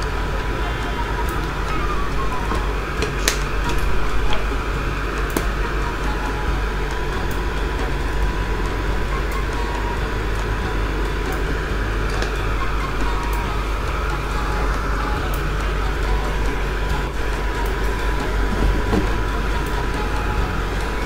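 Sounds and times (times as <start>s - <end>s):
cooktop hum: 0.0s - 21.0s.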